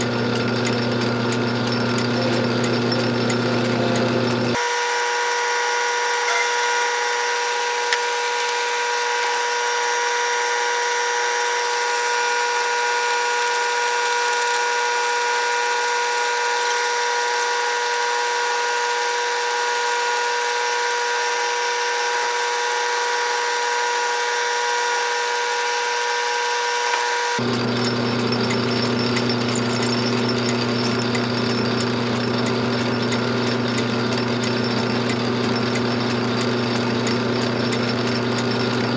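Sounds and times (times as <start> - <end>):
metal lathe high-pitched whine: 0.0 - 38.9.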